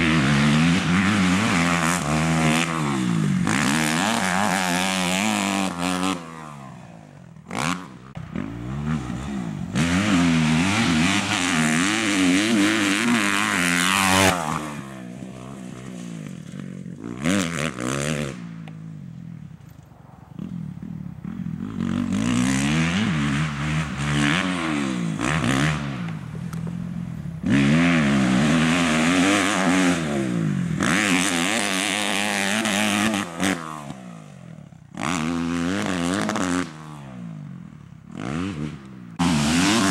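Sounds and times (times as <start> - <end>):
motocross engine revving: 0.0 - 18.9, 20.4 - 26.8, 27.4 - 39.9.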